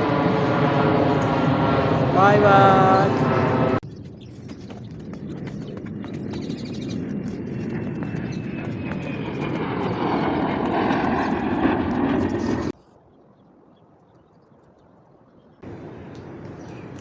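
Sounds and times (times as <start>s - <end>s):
aircraft engine rumble: 0.0s - 12.8s, 15.6s - 17.0s.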